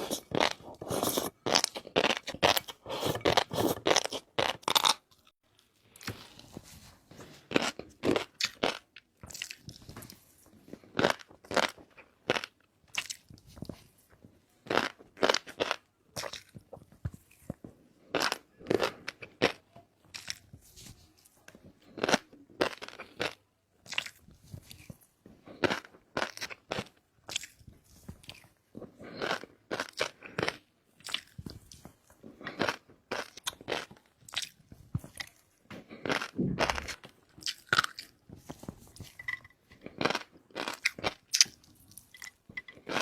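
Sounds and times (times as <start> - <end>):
person chewing crunchy food: 0.0 - 43.0.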